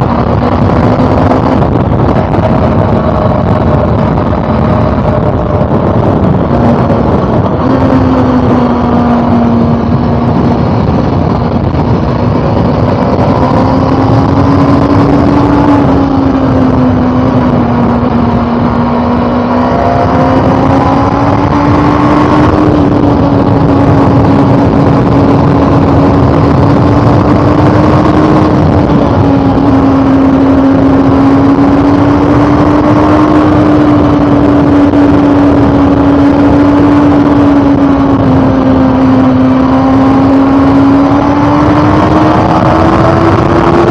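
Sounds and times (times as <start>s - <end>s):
motorcycle engine cruising: 0.0s - 43.9s
wind rushing over microphone: 0.0s - 43.9s.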